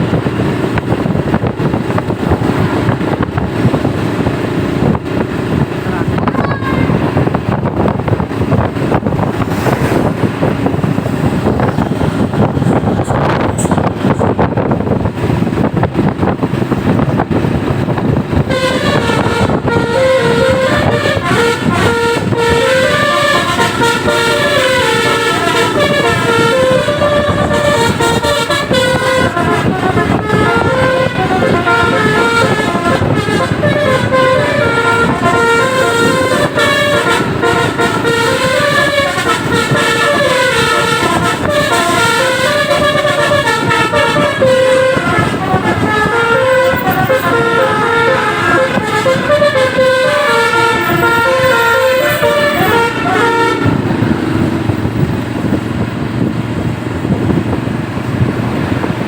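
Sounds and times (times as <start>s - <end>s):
bus engine and road noise: 0.0s - 59.0s
multi-tone bus horns playing melodies: 0.0s - 59.0s.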